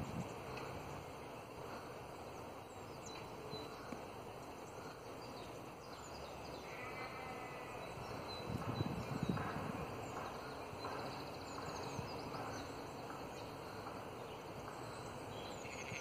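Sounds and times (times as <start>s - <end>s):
background hiss and rumble: 0.0s - 16.0s
small birds chirping: 0.0s - 16.0s.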